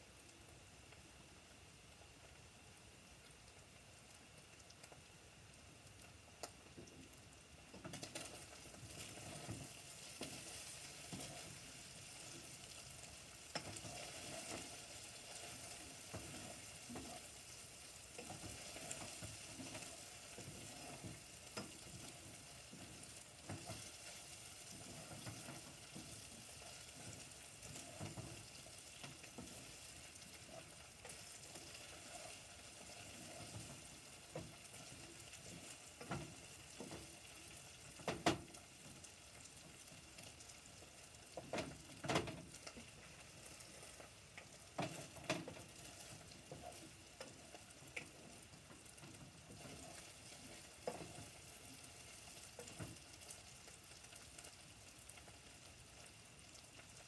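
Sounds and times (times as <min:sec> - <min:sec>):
food sizzling in a pot: 0:00.0 - 0:57.0.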